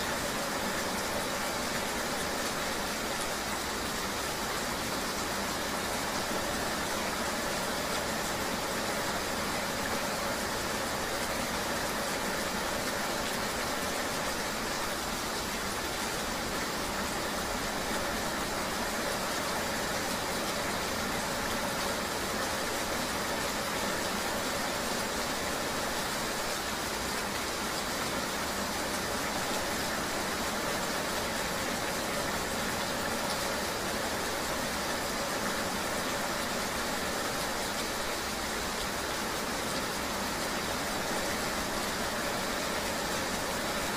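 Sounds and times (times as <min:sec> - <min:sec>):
rain rushing: 0:00.0 - 0:43.9.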